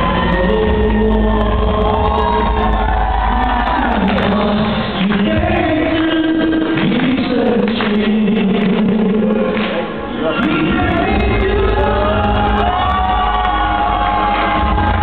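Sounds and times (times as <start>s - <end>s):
backing music: 0.0s - 15.0s
group of people singing: 0.0s - 15.0s.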